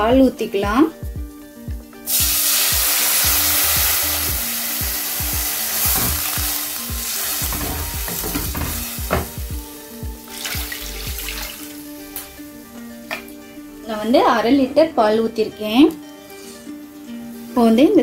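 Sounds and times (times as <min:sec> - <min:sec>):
milk sizzling in hot pan: 0:01.5 - 0:15.1, 0:15.9 - 0:18.0.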